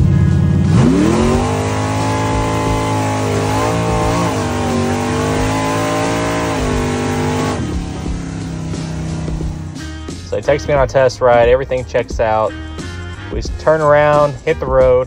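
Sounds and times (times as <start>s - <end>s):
race car engine revving: 0.0s - 12.4s.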